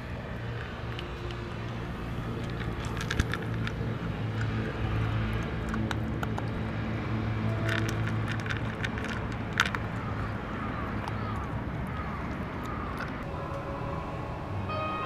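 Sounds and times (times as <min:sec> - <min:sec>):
engine idling hum: 0:00.0 - 0:15.0
dog crunching dry kibble: 0:00.1 - 0:13.3.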